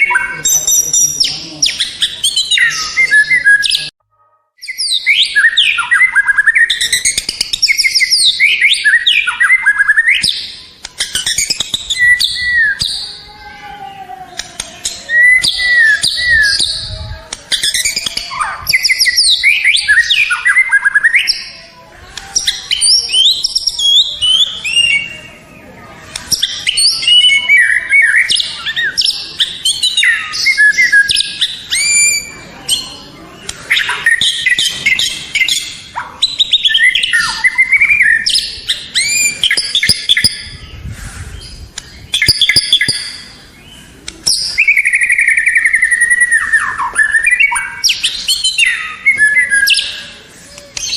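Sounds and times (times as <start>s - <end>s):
songbird singing whistles and trills: 4.6s - 13.2s, 14.6s - 21.6s, 22.4s - 25.3s, 26.2s - 32.9s, 33.7s - 40.7s, 41.4s - 50.9s.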